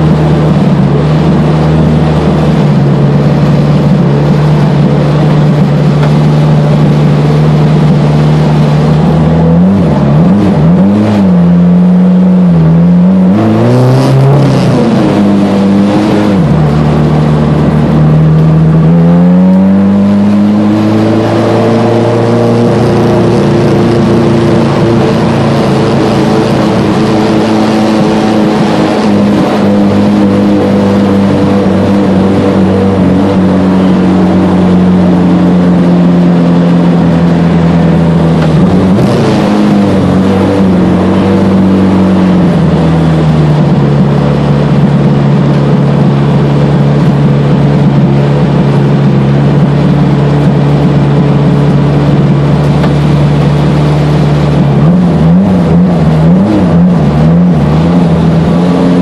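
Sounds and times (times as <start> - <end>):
car engine running inside cabin: 0.0 - 59.0.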